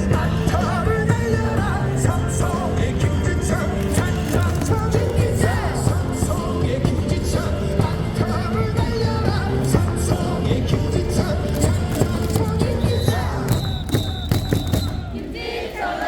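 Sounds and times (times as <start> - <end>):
crowd singing along: 0.0 - 16.0
song over stadium speakers: 0.0 - 16.0.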